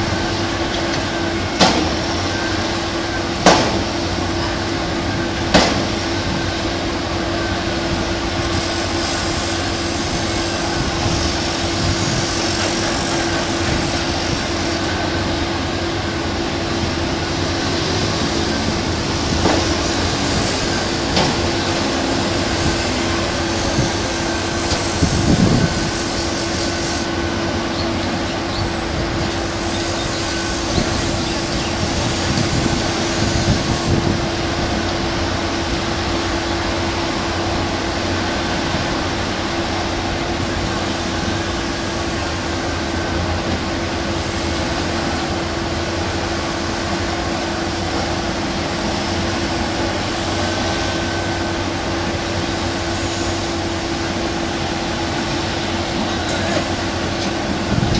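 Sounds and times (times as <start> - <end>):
heavy diesel machinery running: 0.0 - 57.9
steady hum: 0.0 - 57.9.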